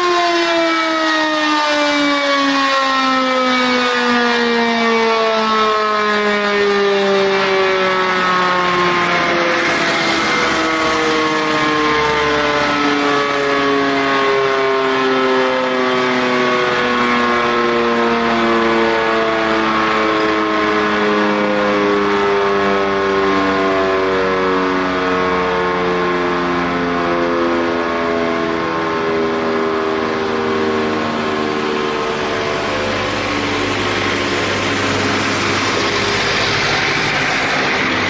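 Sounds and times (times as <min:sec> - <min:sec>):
civil defence siren howling: 0:00.0 - 0:38.0.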